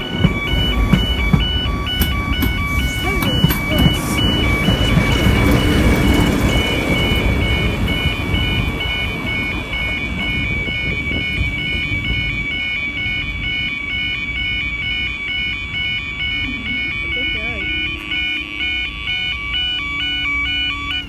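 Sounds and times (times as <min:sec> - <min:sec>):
level crossing alarm: 0:00.0 - 0:21.0.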